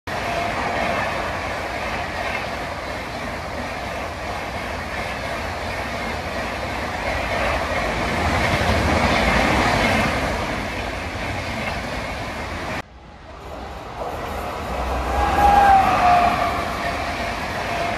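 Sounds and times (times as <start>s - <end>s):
train rushing past: 0.1s - 17.9s.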